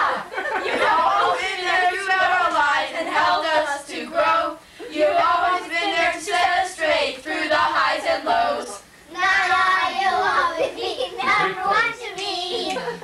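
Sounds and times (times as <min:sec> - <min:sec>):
children and women singing: 0:00.0 - 0:10.6, 0:11.2 - 0:13.0.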